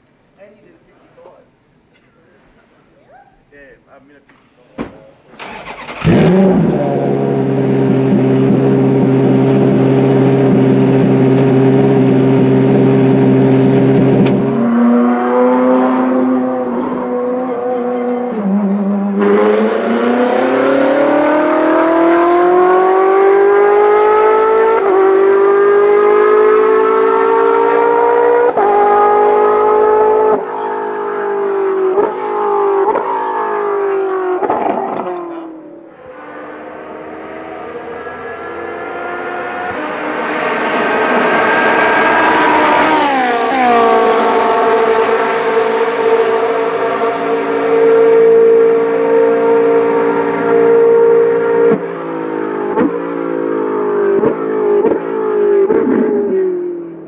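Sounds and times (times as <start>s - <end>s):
car accelerating with gear shifts: 5.4s - 57.0s.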